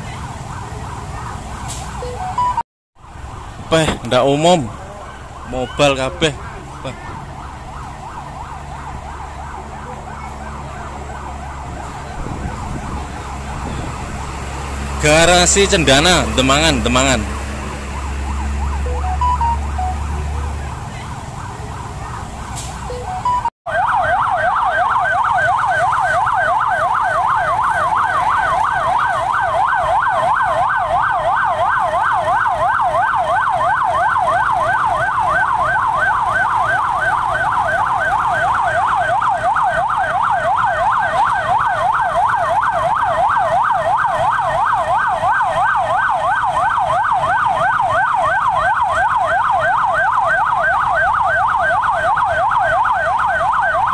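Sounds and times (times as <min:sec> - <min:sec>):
siren warbling fast: 0:00.0 - 0:02.6, 0:03.7 - 0:53.9
street noise: 0:00.0 - 0:53.9.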